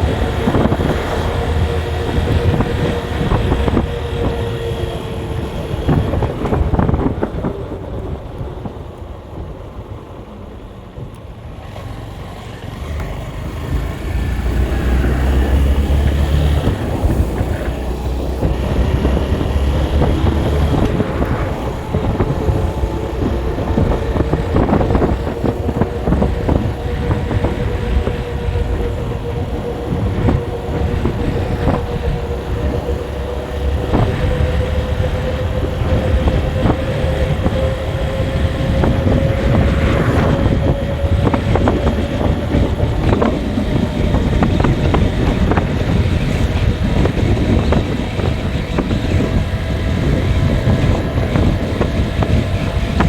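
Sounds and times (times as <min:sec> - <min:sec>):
engine and tyre rumble: 0:00.0 - 0:53.0
wind buffeting microphone: 0:00.0 - 0:53.0.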